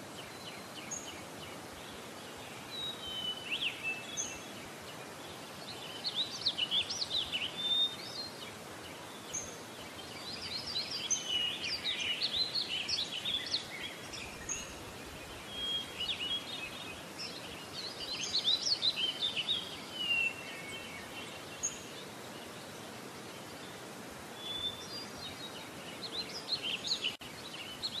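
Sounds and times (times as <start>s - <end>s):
small birds chirping: 0.0s - 28.0s
steady background hiss: 0.0s - 28.0s.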